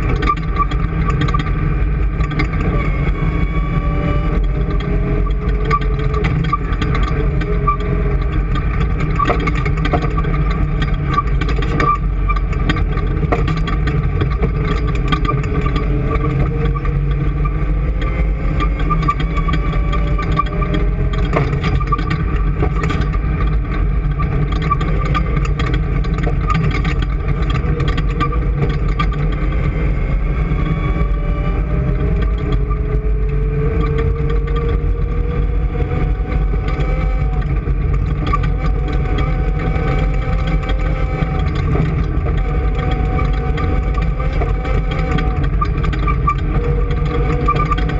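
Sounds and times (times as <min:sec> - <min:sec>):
engine droning: 0:00.0 - 0:47.9
light clicks and rattles: 0:00.0 - 0:47.9.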